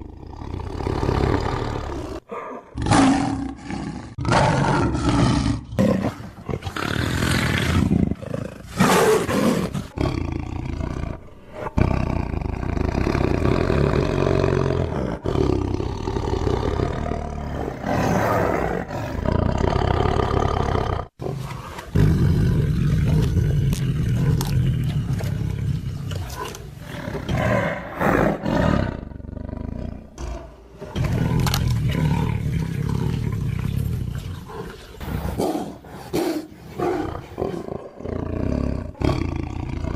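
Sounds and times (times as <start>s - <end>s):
tigers roaring: 0.0s - 39.9s.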